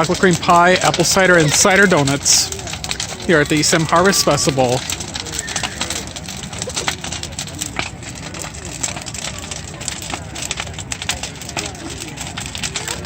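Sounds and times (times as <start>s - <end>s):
bonfire crackling and popping: 0.0s - 13.0s
faint crowd chatter: 0.0s - 13.0s
flames rushing: 0.0s - 13.0s.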